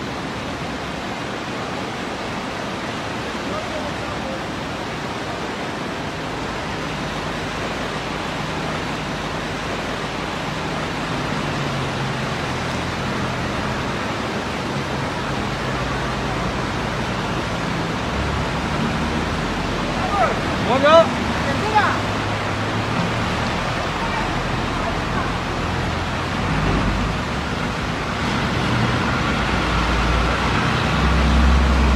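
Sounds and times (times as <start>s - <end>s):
floodwater rushing across street: 0.0s - 31.9s
bus engine hum: 3.0s - 31.9s.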